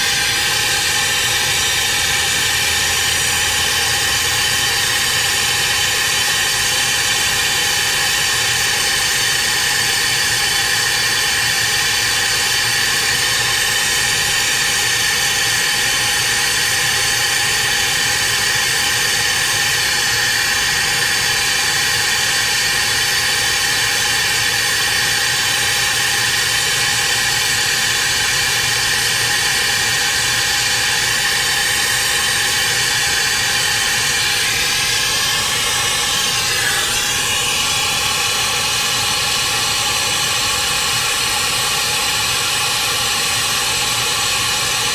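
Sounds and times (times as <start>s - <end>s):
faint steady whine: 0.0s - 44.9s.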